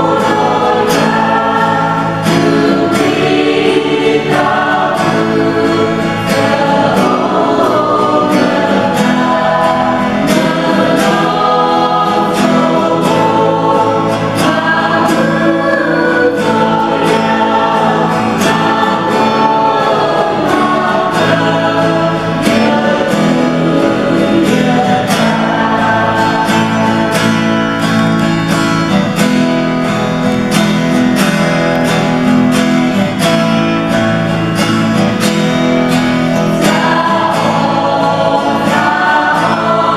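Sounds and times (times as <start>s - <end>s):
group singing gospel: 0.0s - 39.9s.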